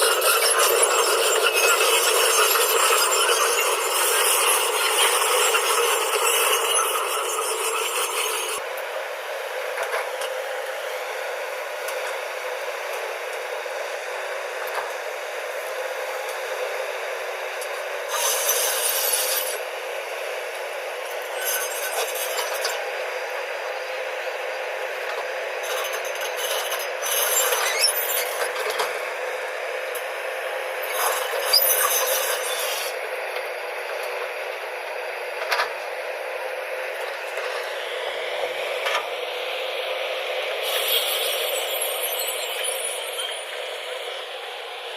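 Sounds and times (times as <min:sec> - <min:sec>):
backhoe loader drone: 0:00.0 - 0:44.9.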